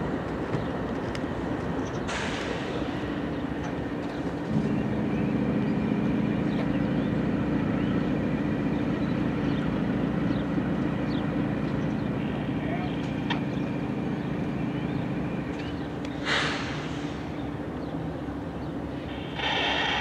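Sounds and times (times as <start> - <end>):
locomotive diesel engines droning: 0.0 - 20.0.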